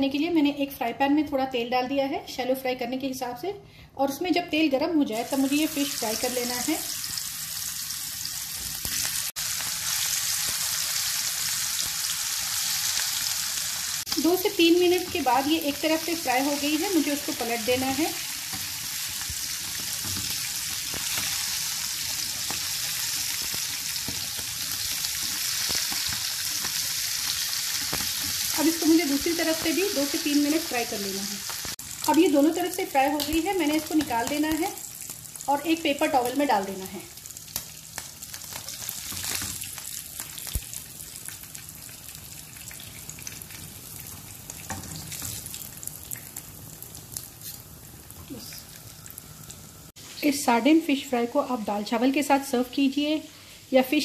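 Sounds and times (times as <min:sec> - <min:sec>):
fish sizzling in hot oil: 0:05.2 - 0:50.4.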